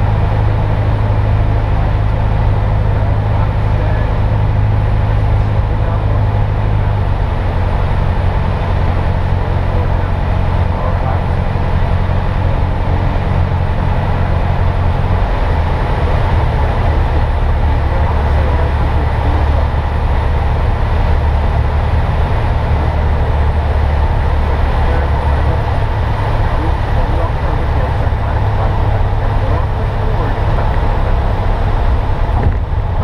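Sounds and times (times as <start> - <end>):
light airplane engine droning: 0.0 - 33.0.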